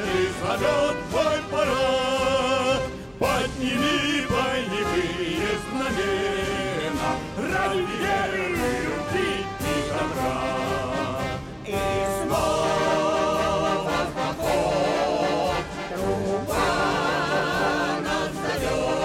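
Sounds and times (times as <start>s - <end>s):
choir singing held notes: 0.0s - 19.0s
orchestral accompaniment: 0.0s - 19.0s.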